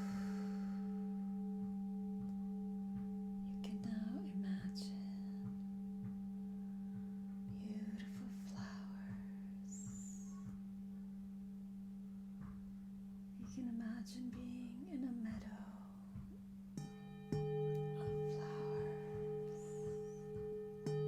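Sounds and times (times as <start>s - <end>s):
singing bowl ringing: 0.0s - 13.2s, 16.4s - 21.0s.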